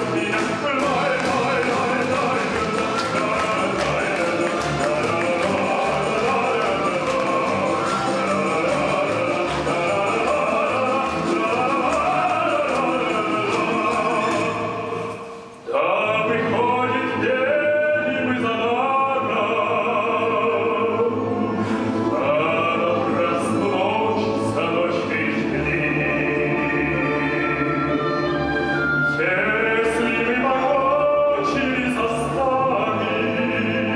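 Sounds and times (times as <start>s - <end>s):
person singing: 0.0s - 28.4s
orchestra playing: 0.0s - 33.9s.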